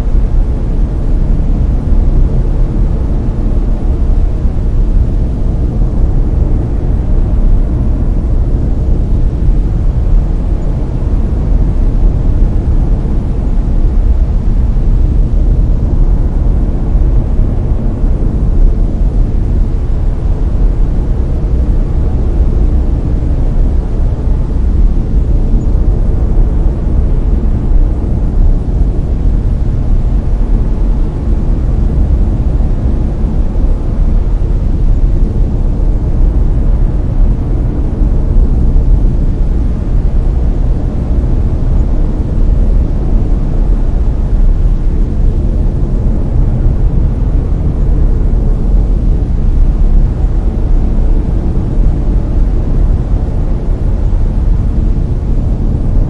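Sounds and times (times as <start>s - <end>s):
deep rumbling brown noise: 0.0s - 56.0s.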